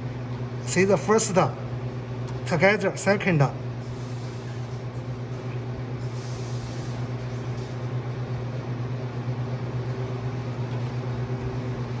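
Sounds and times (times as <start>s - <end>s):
refrigeration equipment humming: 0.0s - 12.0s.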